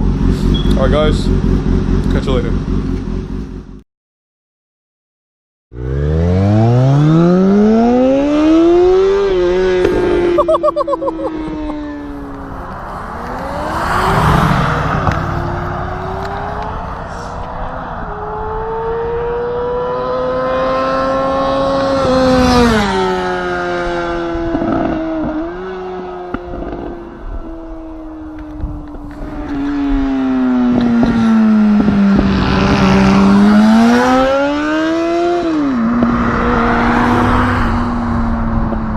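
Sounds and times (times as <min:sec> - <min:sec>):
motorcycle engine revving: 0:00.0 - 0:03.8, 0:05.7 - 0:38.9
rush of wind: 0:07.0 - 0:38.9.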